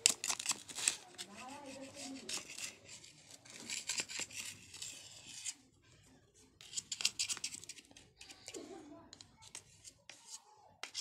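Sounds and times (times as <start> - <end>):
knife scraping clay: 0.0 - 5.7, 6.4 - 11.0.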